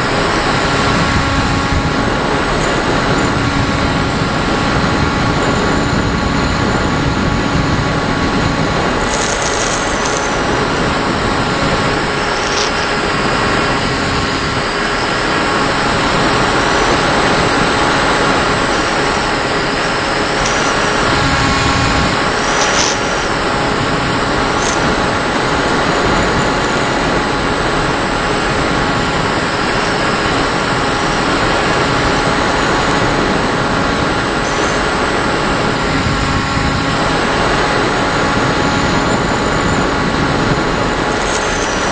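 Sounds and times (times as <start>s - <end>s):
faint steady tones: 0.0s - 41.9s
rushing airflow: 0.0s - 41.9s.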